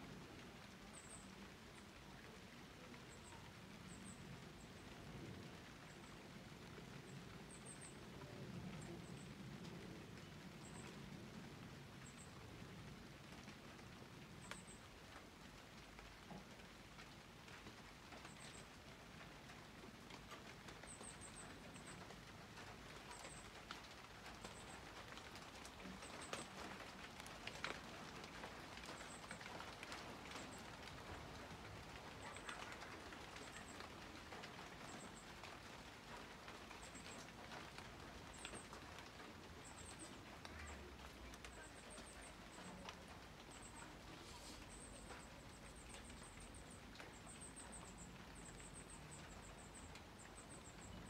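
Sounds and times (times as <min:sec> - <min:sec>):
light rain on foliage: 0:00.0 - 0:51.0.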